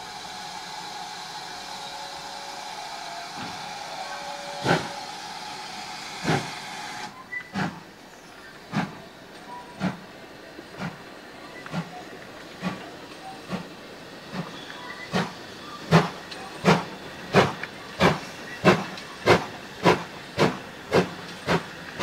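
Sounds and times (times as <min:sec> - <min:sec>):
steam locomotive exhaust beats: 0:00.0 - 0:08.0, 0:08.6 - 0:22.0
steam hissing: 0:00.0 - 0:22.0.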